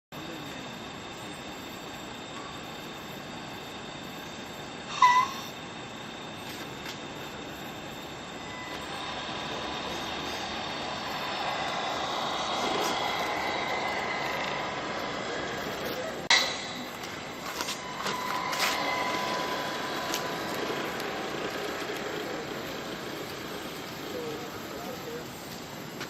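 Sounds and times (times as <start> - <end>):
toy truck drive whine: 1.3 - 26.0.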